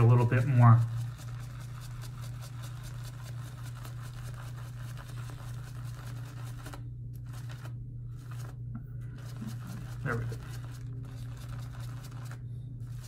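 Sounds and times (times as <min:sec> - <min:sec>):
shaving brush scratching on soap: 0:00.0 - 0:06.7, 0:09.2 - 0:13.0
steady low hum: 0:00.0 - 0:13.0.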